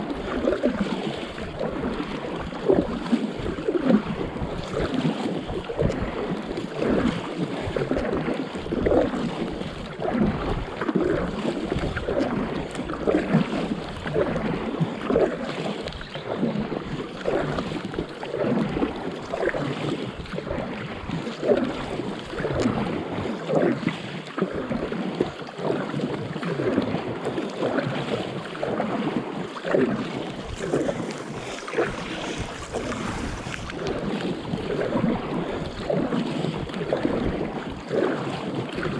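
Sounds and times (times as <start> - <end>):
water lapping against paddleboard: 0.0 - 38.9.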